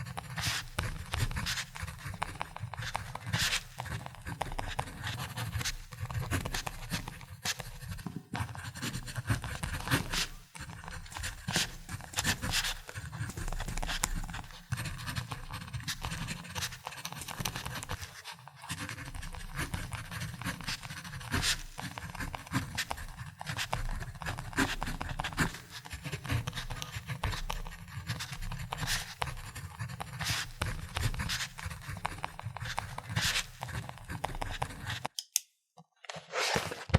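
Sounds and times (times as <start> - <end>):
pen scratching on paper: 0.0 - 35.1, 36.3 - 36.9.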